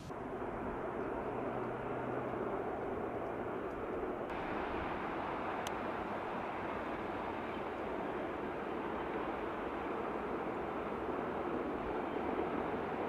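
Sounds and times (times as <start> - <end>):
distant train rumble: 0.0 - 13.0.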